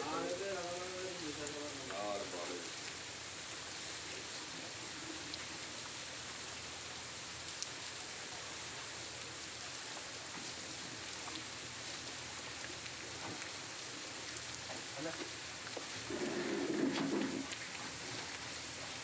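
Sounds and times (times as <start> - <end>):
rain hissing: 0.0 - 19.0.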